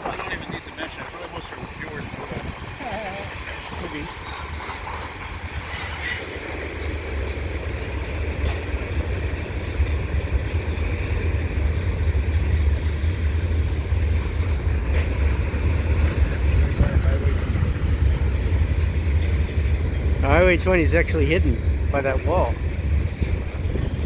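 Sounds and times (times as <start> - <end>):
freight train rumbling past: 0.0 - 24.0
wind buffeting microphone: 0.0 - 24.0.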